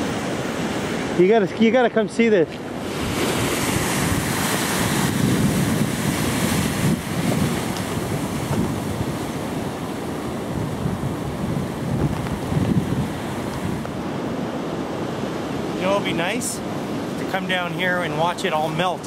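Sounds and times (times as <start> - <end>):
lake waves breaking: 0.0 - 19.0
wind buffeting microphone: 2.7 - 18.4.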